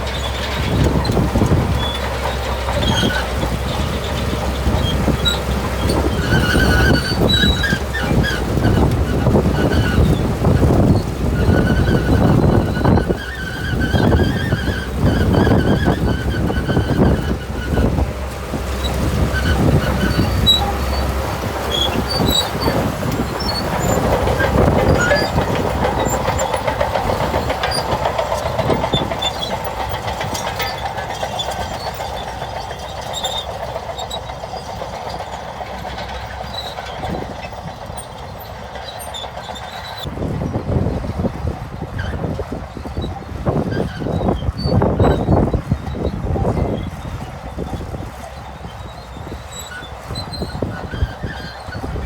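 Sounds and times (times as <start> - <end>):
bulldozer diesel engine: 0.0 - 52.0
steel tracks clanking: 0.0 - 52.0.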